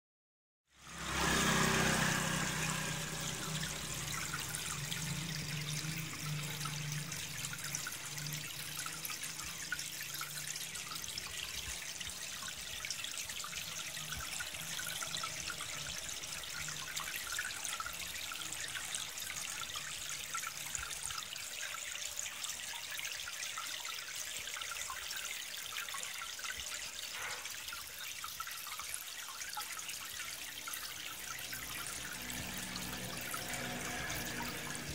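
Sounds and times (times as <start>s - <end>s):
water trickling into pond: 0.7s - 34.9s.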